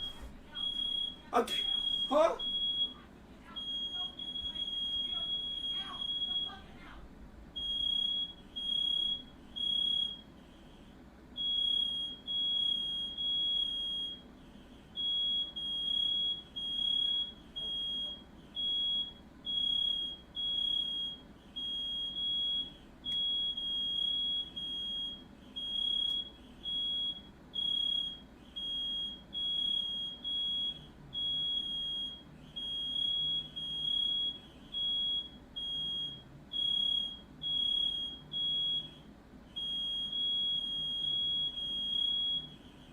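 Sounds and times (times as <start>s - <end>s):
smoke alarm beeping: 0.0s - 6.8s, 7.6s - 10.8s, 11.4s - 42.9s.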